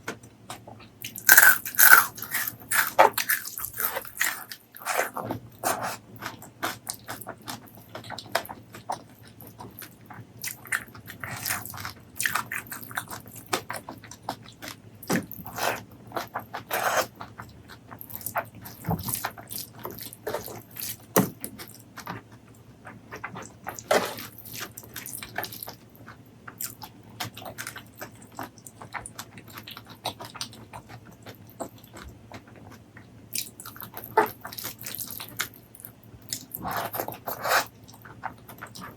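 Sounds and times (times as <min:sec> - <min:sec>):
wet chewing and smacking: 0:00.5 - 0:38.9.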